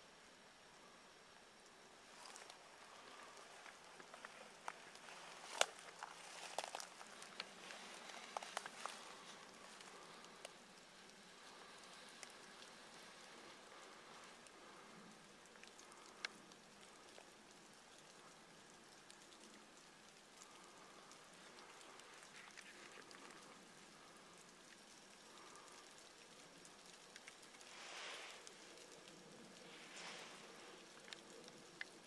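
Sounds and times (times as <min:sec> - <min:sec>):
light rain on leaves: 0:00.0 - 0:32.0
water drips ticking: 0:01.6 - 0:32.0.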